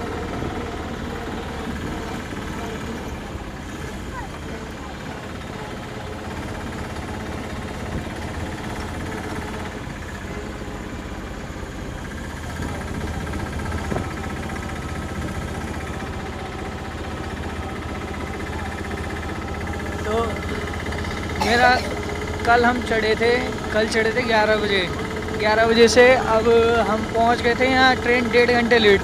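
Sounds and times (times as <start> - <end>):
auto-rickshaw engine running: 0.0 - 29.0.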